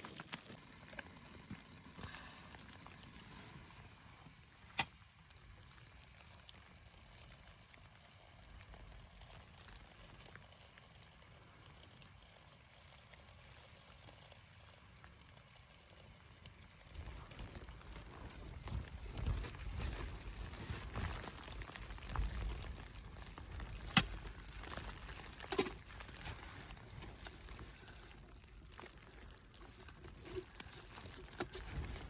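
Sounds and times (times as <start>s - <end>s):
faint low rumble and hiss: 0.0s - 32.0s.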